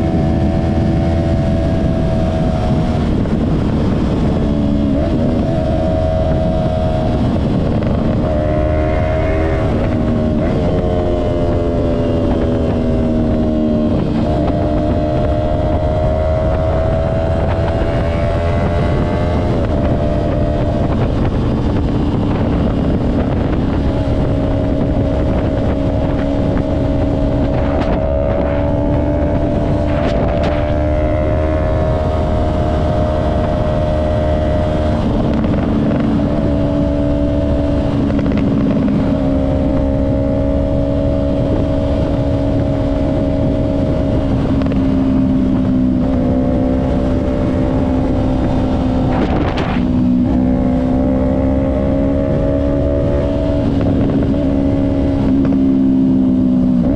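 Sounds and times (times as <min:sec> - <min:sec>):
motorcycle engine cruising: 0:00.0 - 0:56.9
wind noise on microphone: 0:00.0 - 0:56.9.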